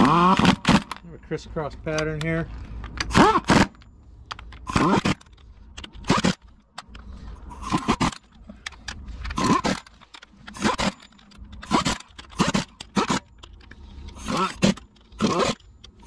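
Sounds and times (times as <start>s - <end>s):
impact wrench whining: 0.0s - 1.0s, 2.7s - 16.0s.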